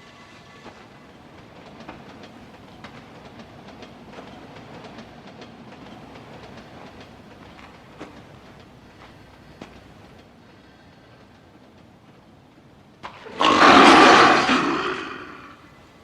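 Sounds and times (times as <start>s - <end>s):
subway train rumbling in tunnel: 0.0s - 16.0s.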